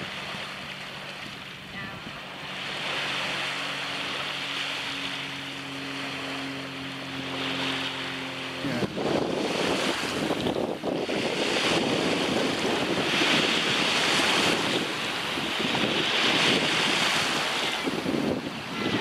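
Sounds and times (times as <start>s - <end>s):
engine drone: 0.0s - 19.0s
small waves washing on shore: 0.0s - 19.0s
wind buffeting microphone: 0.0s - 19.0s.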